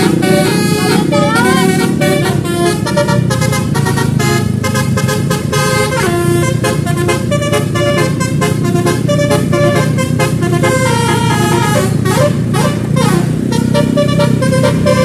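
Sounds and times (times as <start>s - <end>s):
multi-tone musical vehicle horn: 0.0s - 15.0s.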